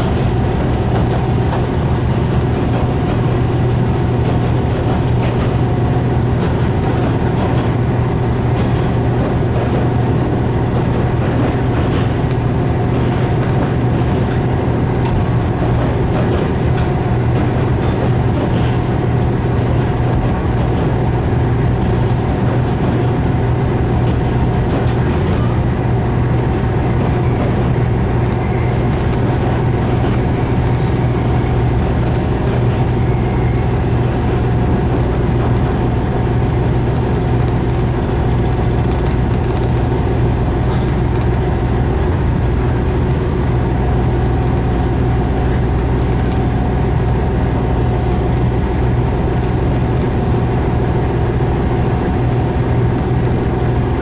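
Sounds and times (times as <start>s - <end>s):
diesel railcar engine drone: 0.0s - 54.0s
rail rumble: 0.0s - 54.0s.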